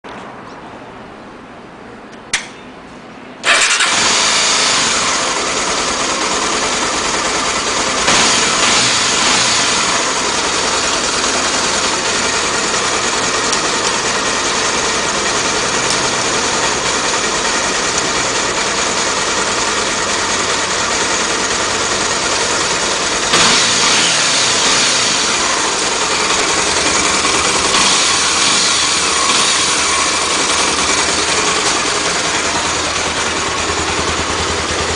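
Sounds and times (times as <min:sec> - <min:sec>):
motorcycle engine running: 0:03.5 - 0:34.9.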